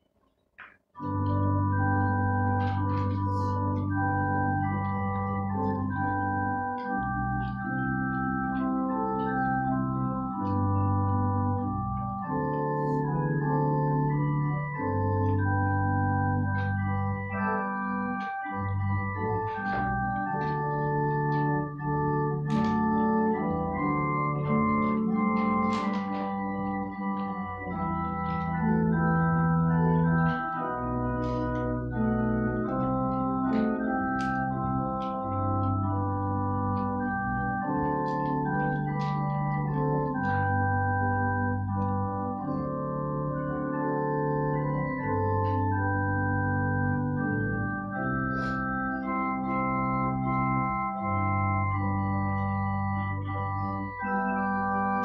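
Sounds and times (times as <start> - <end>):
organ playing slow chords: 0.9 - 55.0.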